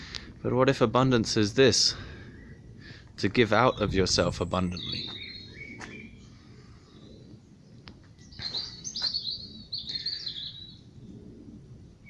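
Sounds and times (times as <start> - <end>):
small songbirds chirping: 1.9 - 12.0.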